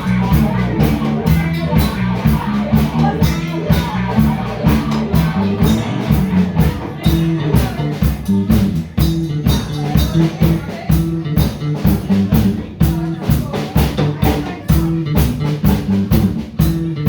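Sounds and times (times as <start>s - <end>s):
drum kit beat: 0.0s - 17.0s
guitar: 0.0s - 17.0s.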